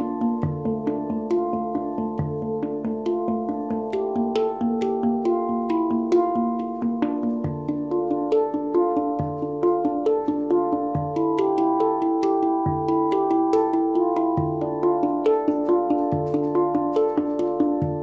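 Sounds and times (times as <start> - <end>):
deep low handpan note: 0.0 - 18.0
handpan ringing notes: 0.0 - 18.0.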